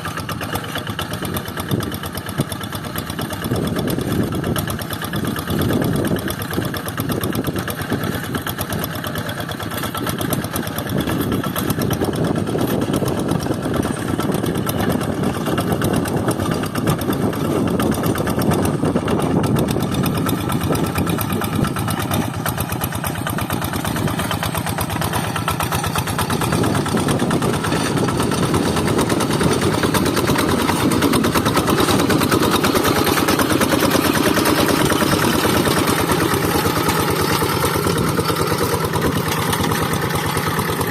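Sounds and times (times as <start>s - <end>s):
hand tractor diesel engine running: 0.0s - 40.9s.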